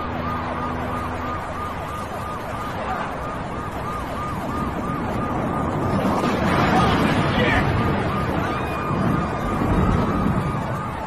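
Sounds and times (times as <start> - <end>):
city street noise: 0.0 - 11.0
siren yelping: 0.0 - 11.0.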